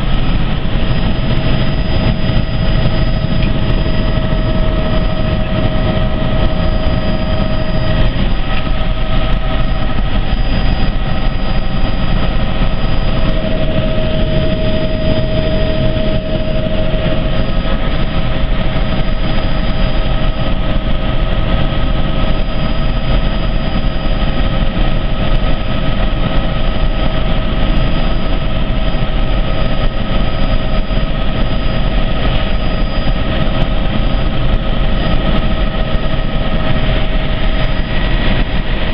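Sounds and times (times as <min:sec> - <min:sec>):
helicopter engine and rotors: 0:00.0 - 0:38.9
whining tones: 0:00.0 - 0:38.9.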